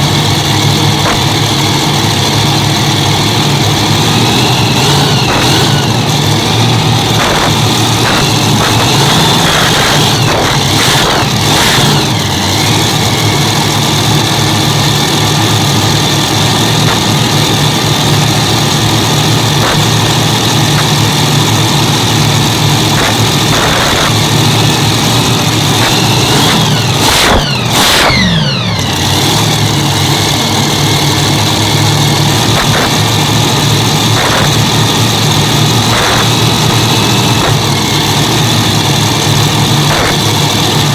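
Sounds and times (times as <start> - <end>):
tractor engines running loudly: 0.0 - 40.9.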